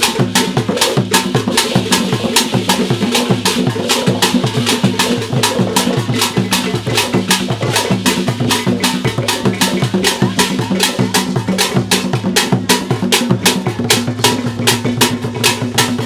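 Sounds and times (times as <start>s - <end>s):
deep drum tones: 0.0s - 16.0s
gourd rattle shaking: 0.0s - 16.0s
wooden drums struck with sticks: 0.0s - 16.0s.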